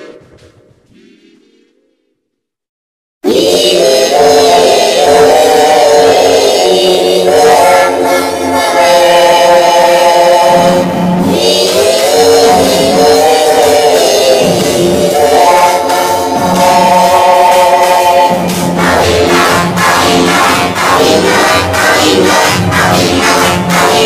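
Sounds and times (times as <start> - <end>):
pitch-altered singing over music: 3.2 - 24.0.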